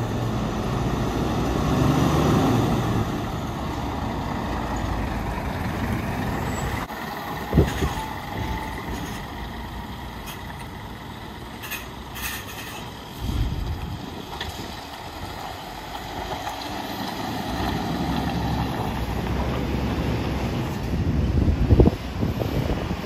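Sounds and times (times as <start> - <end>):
diesel lorry engine pulling away: 0.0 - 23.0.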